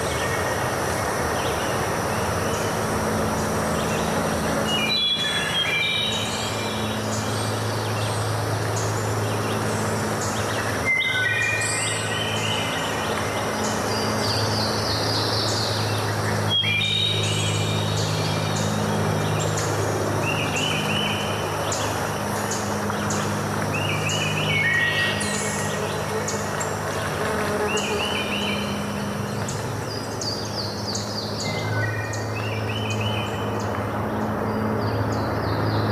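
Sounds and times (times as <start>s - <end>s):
flowing water rushing: 0.0s - 34.4s
birds chirping: 0.0s - 35.9s.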